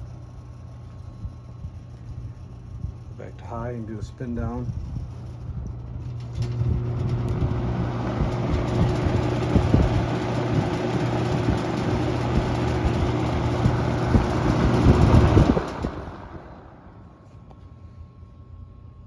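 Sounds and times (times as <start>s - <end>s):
box fan running: 0.0s - 19.0s.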